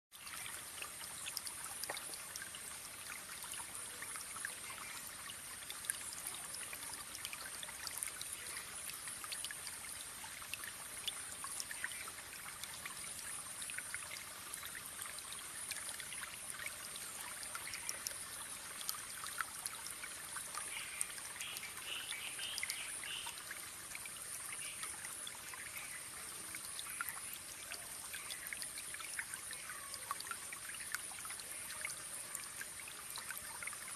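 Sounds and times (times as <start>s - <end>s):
small waterfall splashing: 0.1s - 33.9s.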